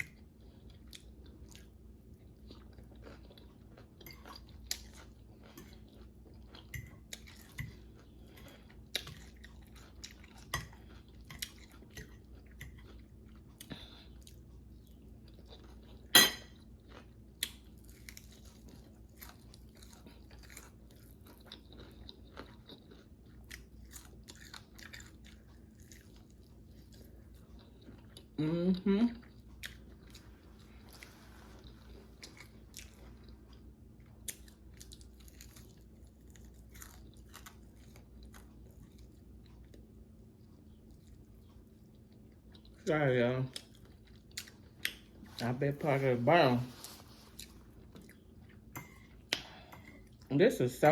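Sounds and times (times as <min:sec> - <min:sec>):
person chewing crispy food: 0:00.0 - 0:50.3.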